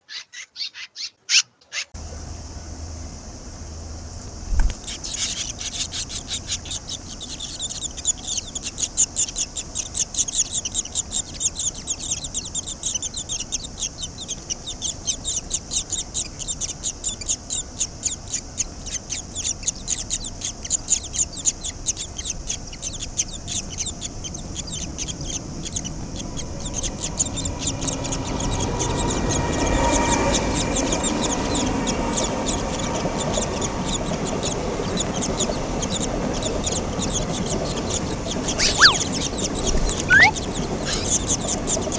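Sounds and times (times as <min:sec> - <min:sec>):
swallow chicks chirping: 0:00.0 - 0:41.9.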